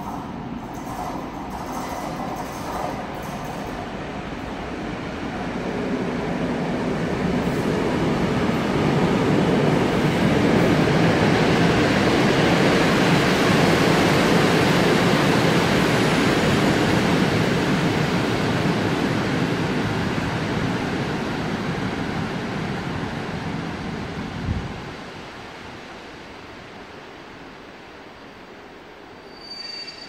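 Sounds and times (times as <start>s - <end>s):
train wheels rumbling on track: 0.0s - 26.1s.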